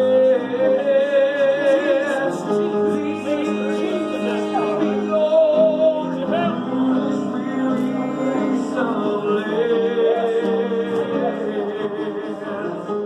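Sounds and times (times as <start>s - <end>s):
person singing: 0.0s - 13.0s
sustained worship chords: 0.0s - 13.0s.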